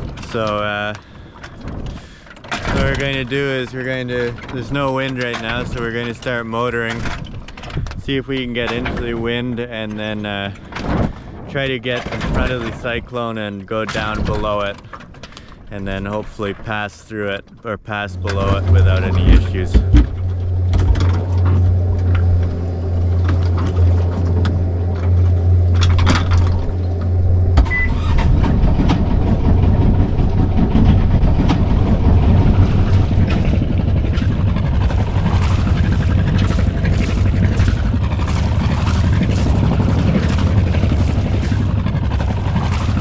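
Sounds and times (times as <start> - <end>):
boat engine humming: 0.0 - 43.0.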